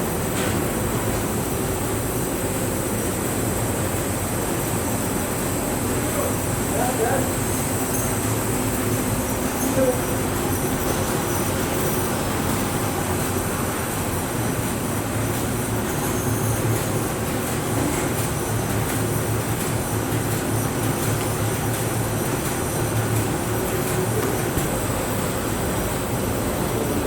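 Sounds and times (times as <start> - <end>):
machinery hum: 0.0 - 27.0.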